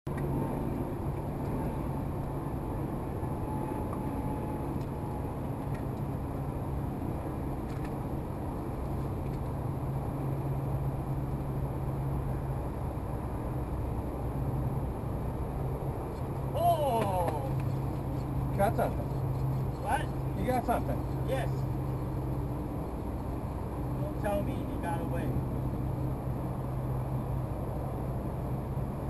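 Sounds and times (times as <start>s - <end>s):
outdoor noise: 0.1s - 29.0s.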